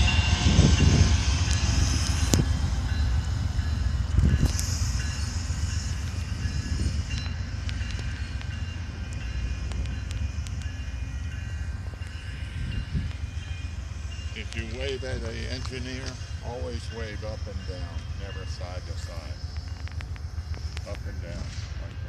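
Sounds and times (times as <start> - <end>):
train rumbling past: 0.0 - 22.0
train wheels clicking: 0.0 - 22.0.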